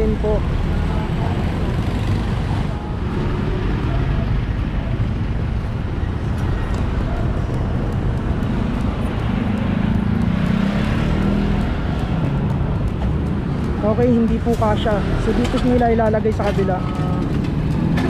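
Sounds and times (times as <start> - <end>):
passing motorcycles and vehicles: 0.0 - 18.0
steady engine hum: 0.0 - 18.0.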